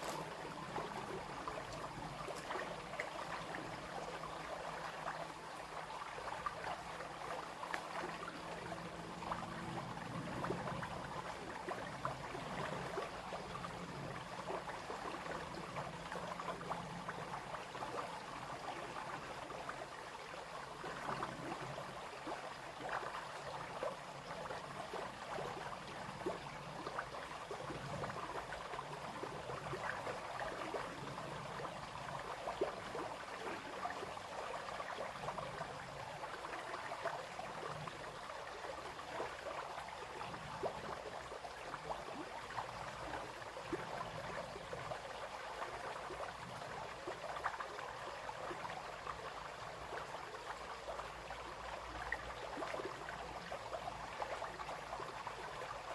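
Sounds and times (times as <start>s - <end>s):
brook babbling over stones: 0.0s - 55.9s.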